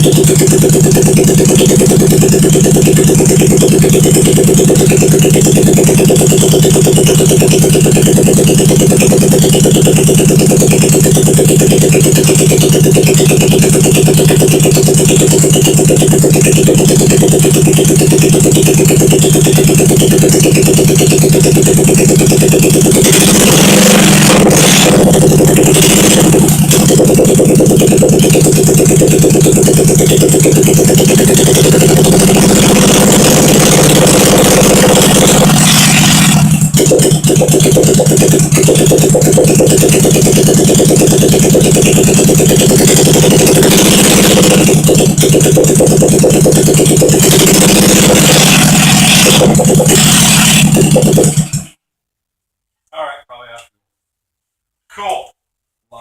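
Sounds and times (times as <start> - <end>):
motorcycle engine running: 0.0 - 51.8.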